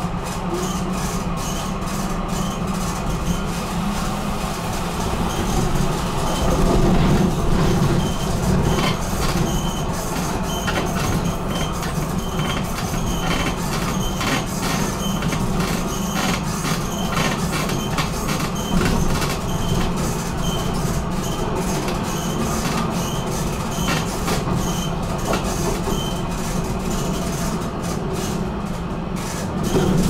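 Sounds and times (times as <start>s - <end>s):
tram rolling hum: 0.0s - 30.0s
wheels clicking on rails: 0.1s - 30.0s.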